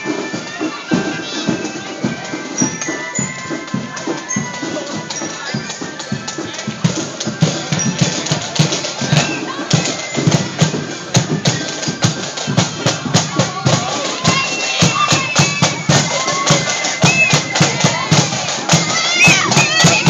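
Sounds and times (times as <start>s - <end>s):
high melody line: 0.0s - 20.0s
marching band playing: 0.0s - 20.0s
steady drum beat: 0.0s - 20.0s.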